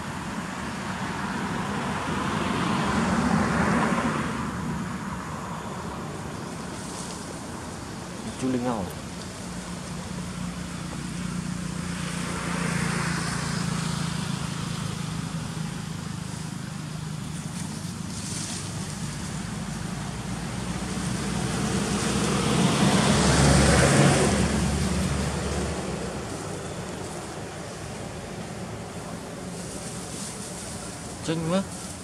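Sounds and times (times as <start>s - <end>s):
vehicle engine hum: 0.0s - 32.0s.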